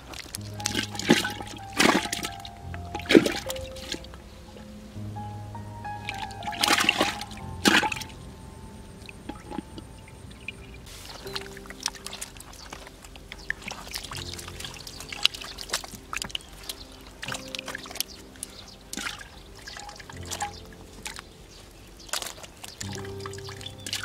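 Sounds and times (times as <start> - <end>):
wet splashes and drips: 0.0 - 4.8, 5.8 - 8.2, 9.0 - 24.0
background music low tones: 0.0 - 24.0.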